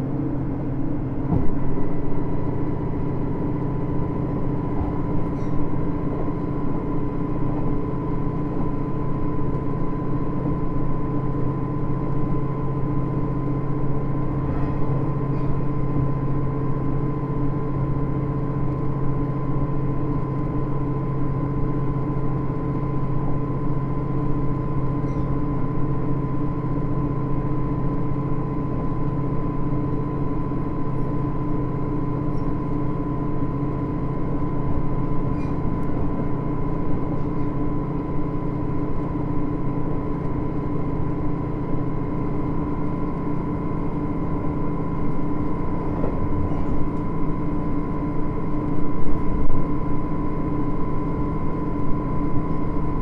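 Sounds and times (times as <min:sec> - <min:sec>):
diesel engine drone: 0:00.0 - 0:53.0.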